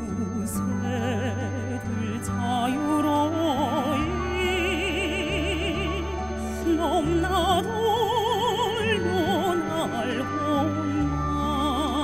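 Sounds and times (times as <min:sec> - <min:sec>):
instrumental accompaniment: 0:00.0 - 0:12.0
woman singing with vibrato: 0:00.0 - 0:12.0.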